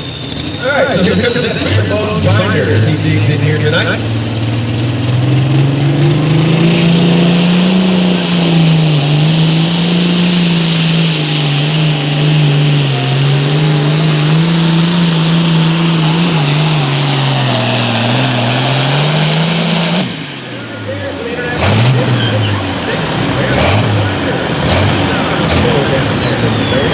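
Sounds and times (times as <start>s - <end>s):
diesel engine under load: 0.0s - 26.9s
high turbo whine: 0.0s - 26.9s.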